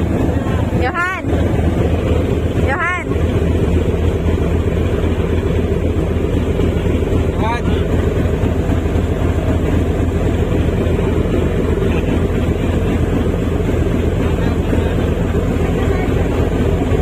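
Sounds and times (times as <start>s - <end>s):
ferry engines droning: 0.0s - 17.0s.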